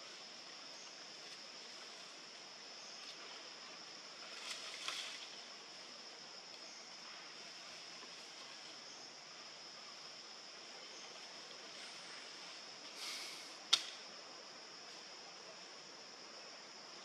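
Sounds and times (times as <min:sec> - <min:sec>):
even hiss: 0:00.0 - 0:17.0.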